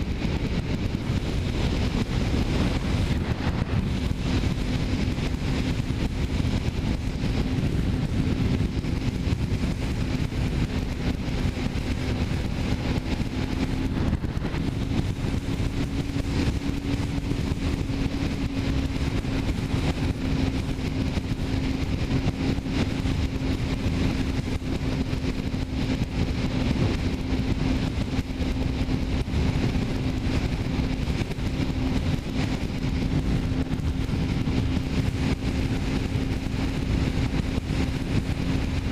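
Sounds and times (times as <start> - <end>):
motorcycle engine cruising: 0.0 - 38.9
wind and road rush: 0.0 - 38.9.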